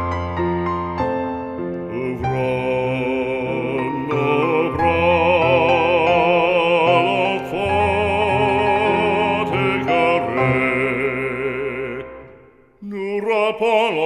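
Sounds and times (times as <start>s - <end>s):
hymn sung with vibrato: 1.9s - 14.0s.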